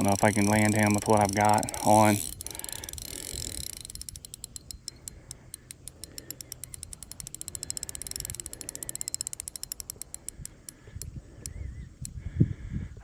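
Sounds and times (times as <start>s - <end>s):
fishing reel clicking: 0.0s - 12.2s.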